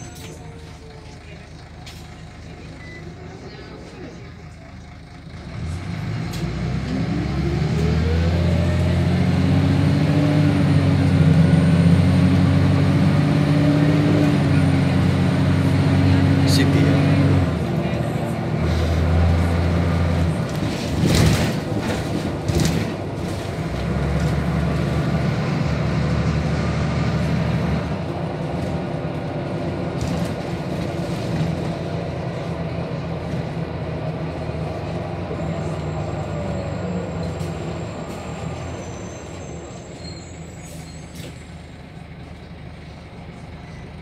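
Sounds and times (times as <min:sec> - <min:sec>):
bus engine drone: 0:00.0 - 0:44.0.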